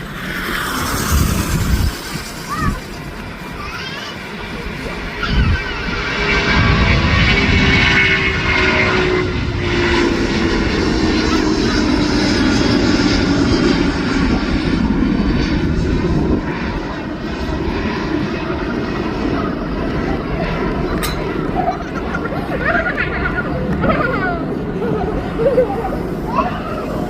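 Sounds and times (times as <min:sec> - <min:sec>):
jet airliner taking off: 0:00.0 - 0:27.0.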